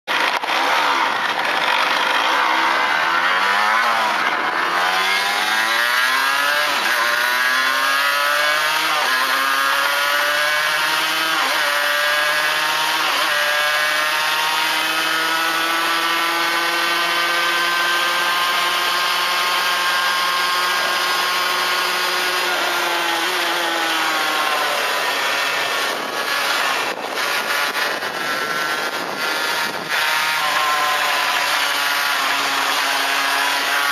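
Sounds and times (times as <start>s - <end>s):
two-stroke engine revving: 0.1s - 33.9s.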